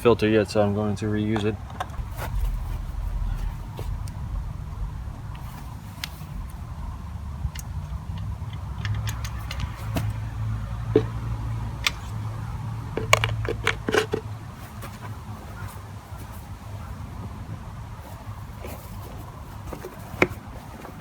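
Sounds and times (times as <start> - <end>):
steady low hum: 1.9 - 19.7.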